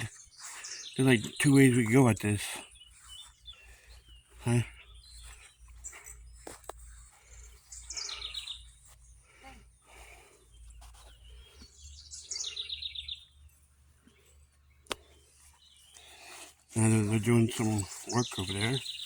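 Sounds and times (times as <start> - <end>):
songbird singing with trill: 0.0 - 9.2, 10.5 - 13.4, 14.1 - 19.0.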